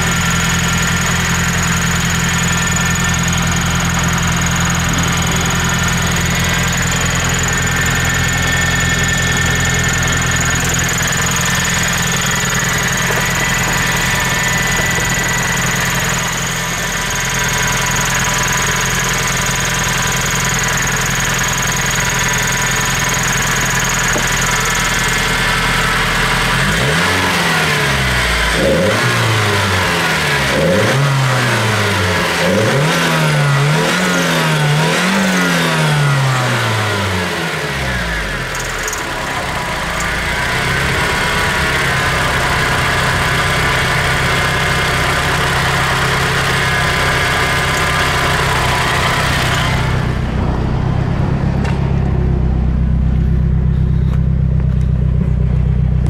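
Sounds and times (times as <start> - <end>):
car engine idling: 0.0 - 56.0
engine revs blipping: 0.0 - 56.0.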